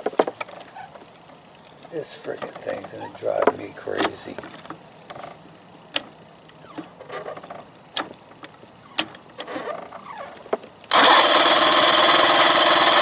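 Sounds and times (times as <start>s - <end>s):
sharp clicks and handling knocks: 0.0s - 11.0s
outboard motor buzzing: 0.0s - 13.0s.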